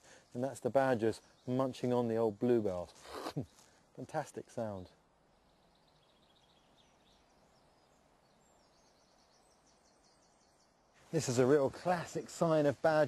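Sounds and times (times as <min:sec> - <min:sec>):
faint distant birdsong: 0:00.0 - 0:13.0.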